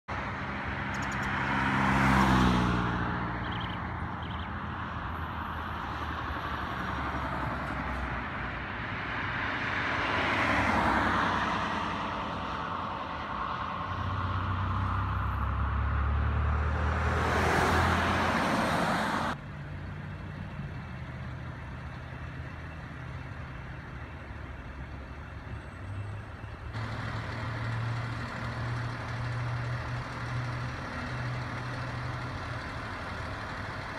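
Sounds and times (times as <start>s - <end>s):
fire truck diesel engines passing: 0.1s - 33.9s.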